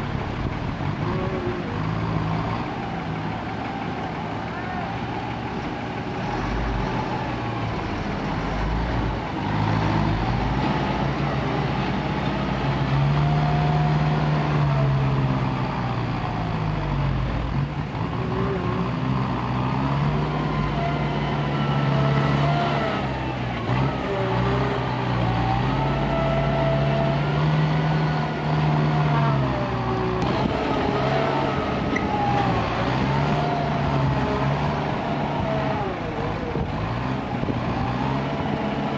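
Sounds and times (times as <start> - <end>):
truck diesel engine revving: 0.0 - 38.9.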